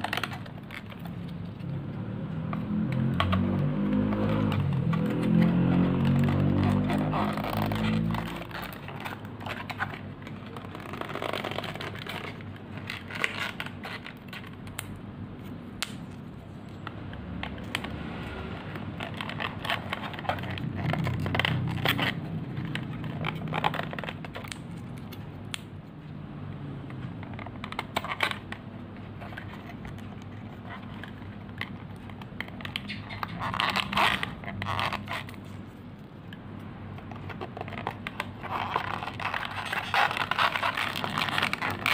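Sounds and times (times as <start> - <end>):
cardboard pieces scraping: 0.0 - 14.8, 17.3 - 25.2, 27.0 - 35.8, 37.0 - 41.9.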